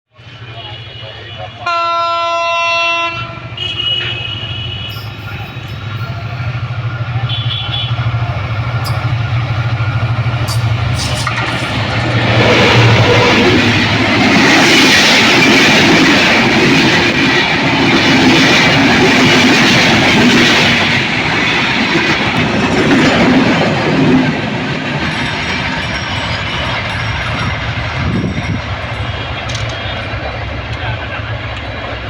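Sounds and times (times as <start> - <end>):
train wheels clattering: 4.8 - 32.0.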